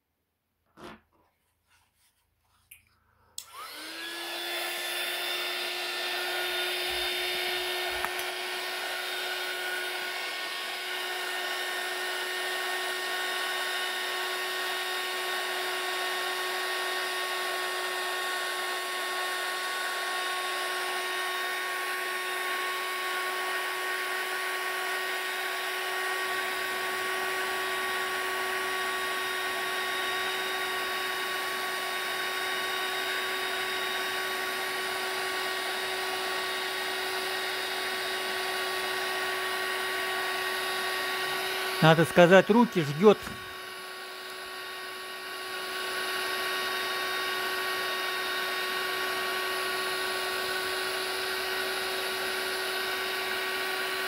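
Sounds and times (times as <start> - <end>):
heat gun fan whining: 3.3 - 54.0.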